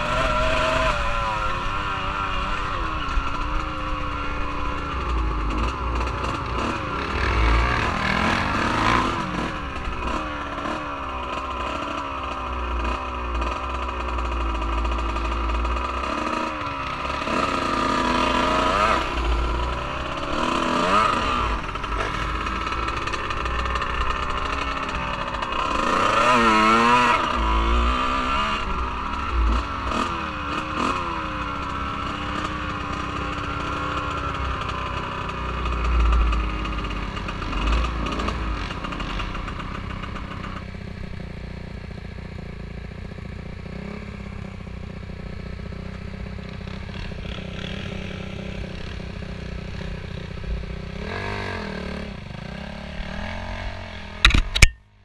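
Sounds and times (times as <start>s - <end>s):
vehicle engine revving: 0.0s - 54.8s.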